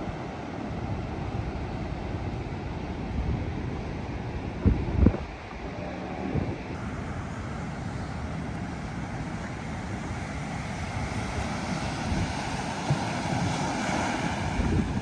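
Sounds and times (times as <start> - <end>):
wind buffeting the microphone: 0.0 - 6.8, 8.2 - 15.0
surf breaking on a beach: 0.0 - 15.0.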